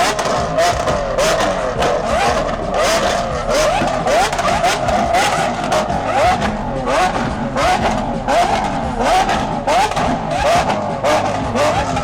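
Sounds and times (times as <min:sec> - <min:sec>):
exhaust crackles: 0:00.0 - 0:12.0
sports car engine revving: 0:00.0 - 0:12.0.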